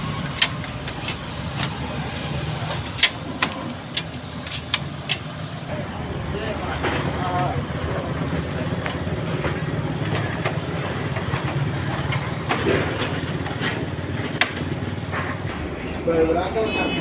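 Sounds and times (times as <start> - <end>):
low engine-like rumble: 0.0 - 16.3.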